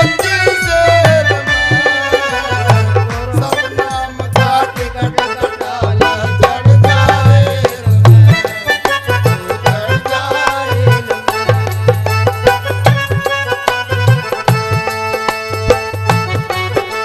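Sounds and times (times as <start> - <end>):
hand drum beats: 0.0 - 17.0.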